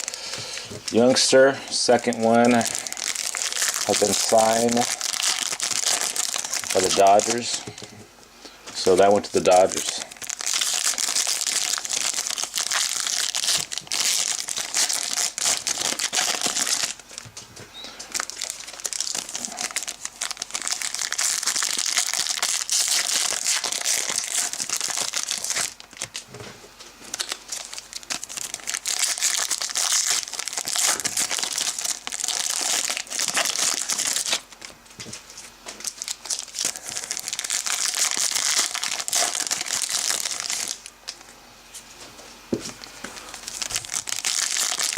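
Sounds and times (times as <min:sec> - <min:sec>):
plastic wrappers crinkling and tearing: 0:00.0 - 0:08.0, 0:08.7 - 0:41.2, 0:42.8 - 0:44.9.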